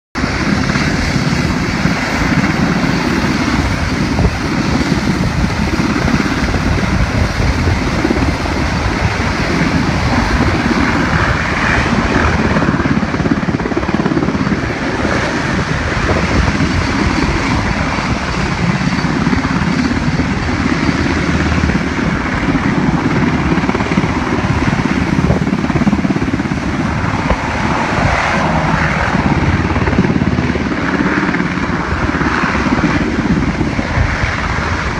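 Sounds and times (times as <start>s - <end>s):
helicopter rotors and engines: 0.2s - 34.9s.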